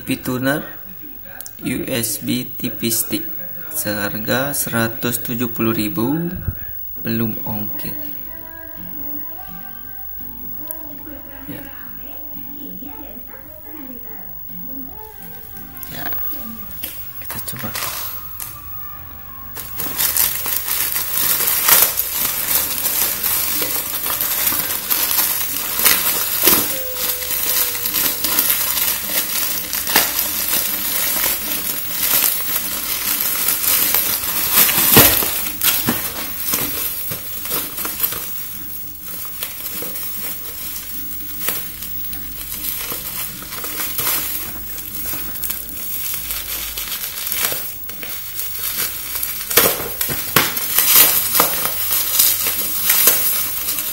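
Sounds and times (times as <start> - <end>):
plastic and cardboard crinkling: 0.0 - 9.4, 14.9 - 18.7, 19.3 - 53.9.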